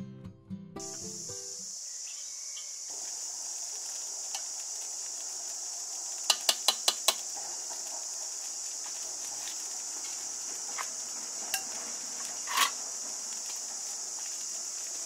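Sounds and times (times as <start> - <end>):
insects chirring: 0.8 - 15.0.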